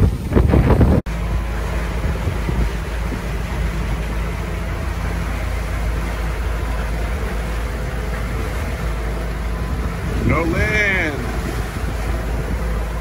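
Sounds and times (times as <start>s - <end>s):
water rushing past hull: 0.0s - 13.0s
wind on microphone: 0.0s - 13.0s.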